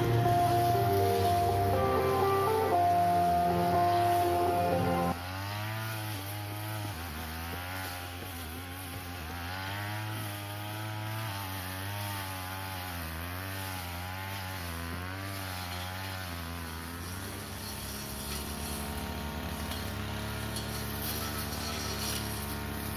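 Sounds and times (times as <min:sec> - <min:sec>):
brush cutter engine revving: 0:00.0 - 0:22.9.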